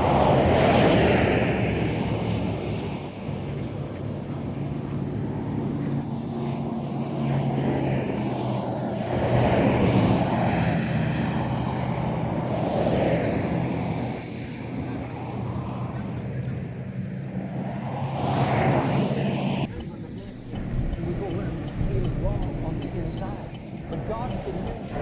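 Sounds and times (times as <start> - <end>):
low engine drone: 0.0 - 25.0.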